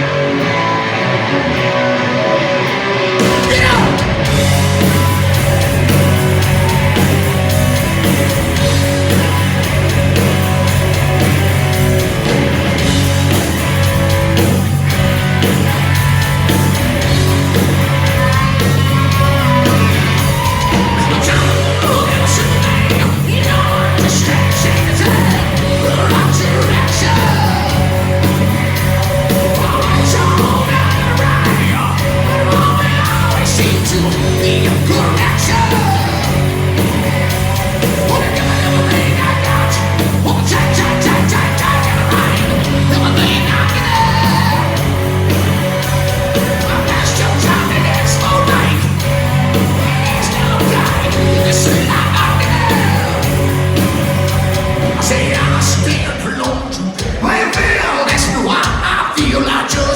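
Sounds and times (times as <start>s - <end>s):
electric guitars: 0.0s - 59.5s
bass guitar: 0.0s - 59.9s
drums: 0.0s - 59.9s
person singing and yelling: 2.0s - 12.3s, 13.2s - 59.9s.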